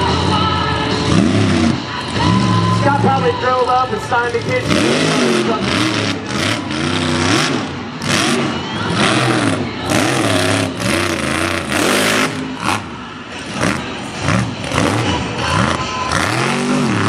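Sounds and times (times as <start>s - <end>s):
truck engine revving hard: 0.0s - 3.2s, 4.3s - 17.0s
mud tyres spinning: 1.0s - 17.0s.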